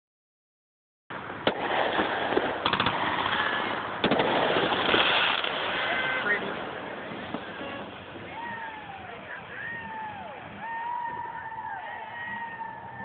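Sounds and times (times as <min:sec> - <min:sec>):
fireworks bangs and cracks: 0:01.1 - 0:11.6
constant noisy din: 0:01.1 - 0:13.0.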